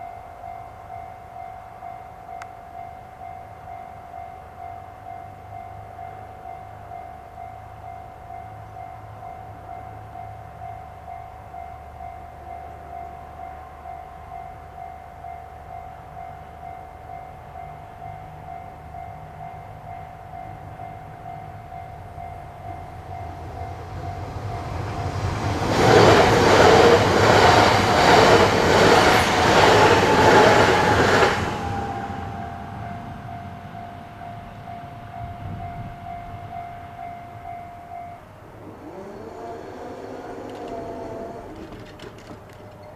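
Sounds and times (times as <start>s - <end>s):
level-crossing warning bell: 0.0s - 42.9s
train rushing past: 6.3s - 42.9s.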